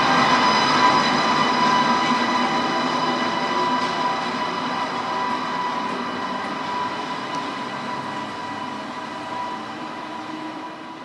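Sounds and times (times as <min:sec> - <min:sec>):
train electric whine: 0:00.0 - 0:11.0.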